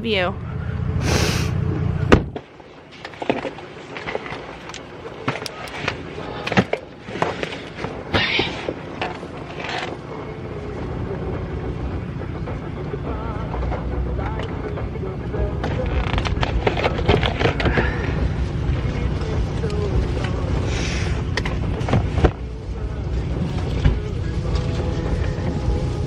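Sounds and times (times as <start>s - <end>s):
low rumble: 0.0s - 2.8s, 3.5s - 26.0s.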